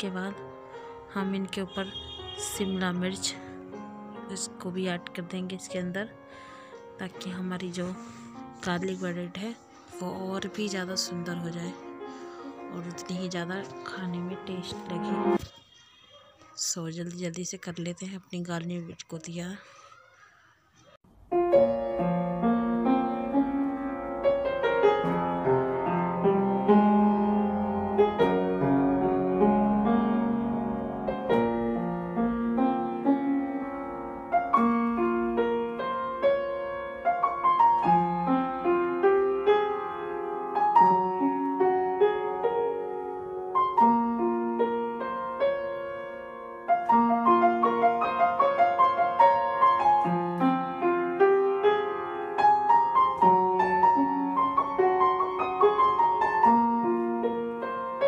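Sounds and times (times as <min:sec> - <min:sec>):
piano music: 0:00.0 - 0:15.5, 0:21.1 - 0:58.0.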